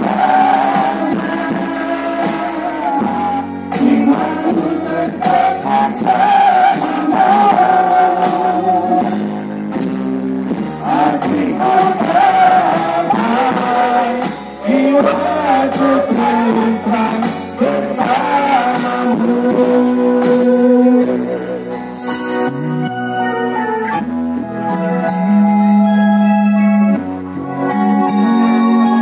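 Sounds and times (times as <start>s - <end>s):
amplified backing music: 0.0s - 29.0s.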